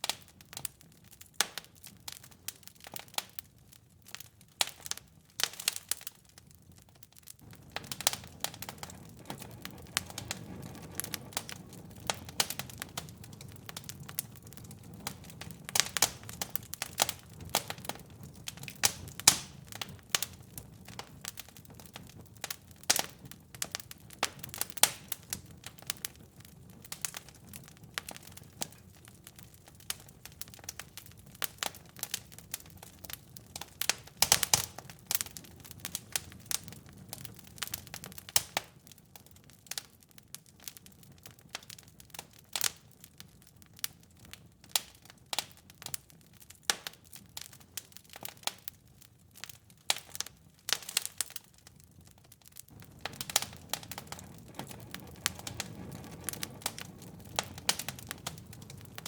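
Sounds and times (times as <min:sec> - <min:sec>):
low rumble of fire: 0:00.0 - 0:59.0
wood fire crackling and popping: 0:00.0 - 0:59.0.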